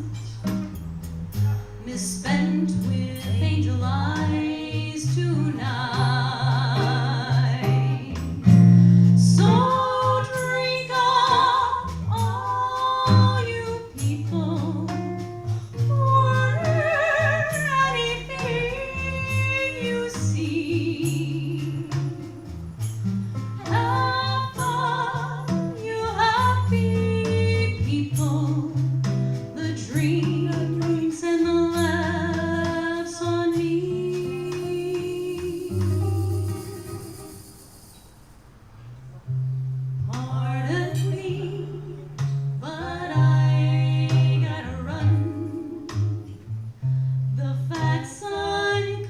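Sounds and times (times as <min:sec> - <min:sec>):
light percussion: 0:00.0 - 0:49.0
low guitar notes: 0:00.0 - 0:49.0.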